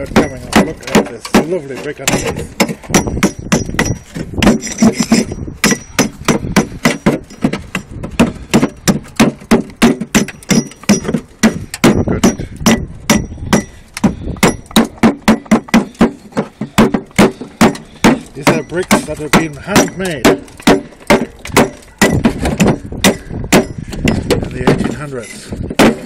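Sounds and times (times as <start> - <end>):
hand tool knocking brick: 0.0 - 26.0.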